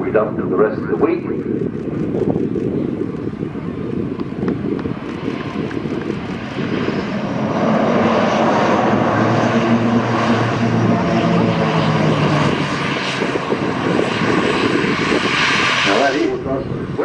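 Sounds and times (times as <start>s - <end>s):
turboprop engines running up: 0.0s - 17.0s.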